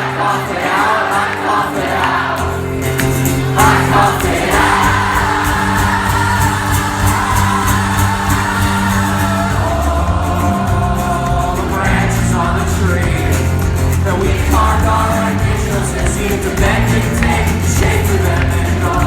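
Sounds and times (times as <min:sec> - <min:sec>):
live rock band playing: 0:01.8 - 0:19.0
person singing: 0:03.4 - 0:19.0.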